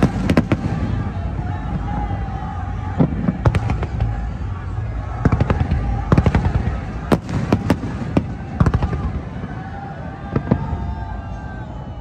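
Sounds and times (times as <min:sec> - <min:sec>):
fireworks bursting with sharp bangs: 0:00.0 - 0:11.3.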